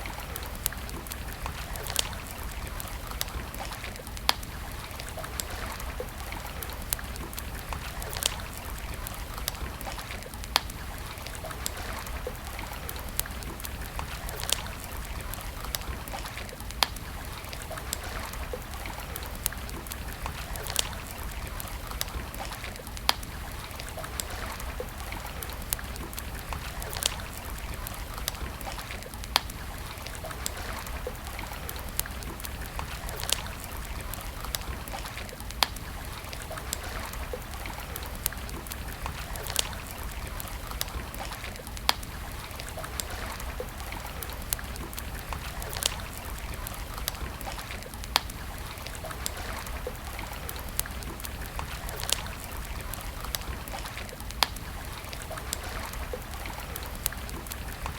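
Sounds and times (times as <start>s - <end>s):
campfire crackling and popping: 0.0s - 57.9s
steady fire hiss: 0.0s - 57.9s.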